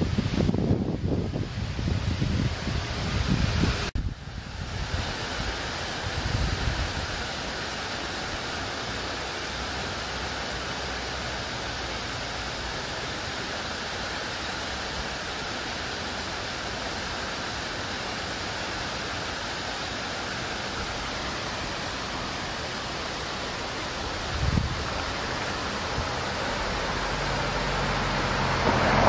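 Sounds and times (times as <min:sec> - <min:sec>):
stream running water: 0:00.0 - 0:29.0.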